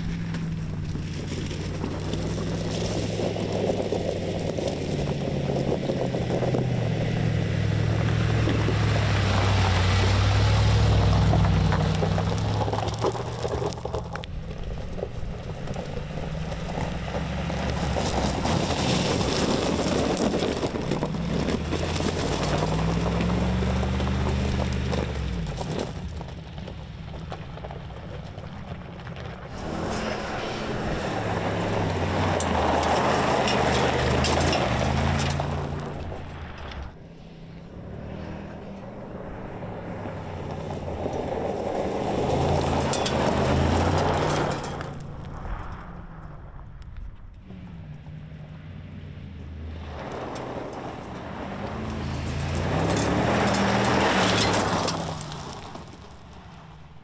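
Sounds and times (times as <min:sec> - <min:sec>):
car engine revving: 0:00.0 - 0:27.7, 0:29.1 - 0:46.3, 0:47.3 - 0:56.3
tyres on loose gravel: 0:00.0 - 0:57.0.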